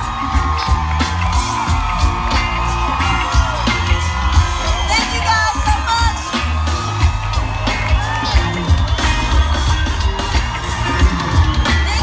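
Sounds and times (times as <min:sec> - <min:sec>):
heavy bass beat: 0:00.0 - 0:12.0
pop music through loudspeakers: 0:00.0 - 0:12.0.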